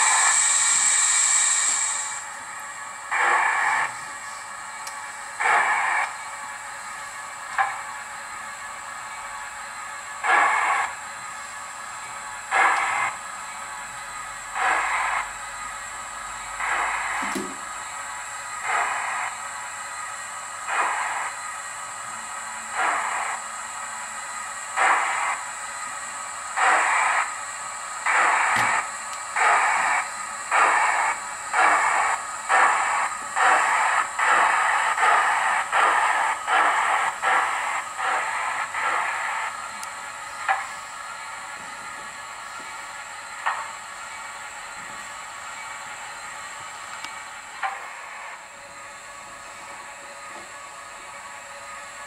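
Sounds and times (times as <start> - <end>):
steam locomotive chuffs from speaker: 0.0 - 52.0.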